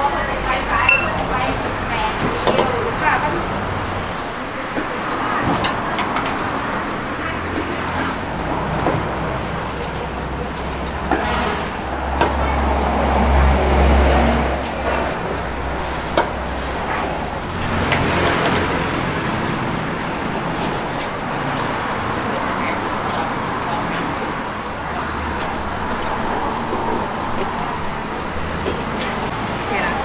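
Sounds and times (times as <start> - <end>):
heavy vehicle passing: 0.0 - 30.0
road traffic rumbling: 0.0 - 30.0.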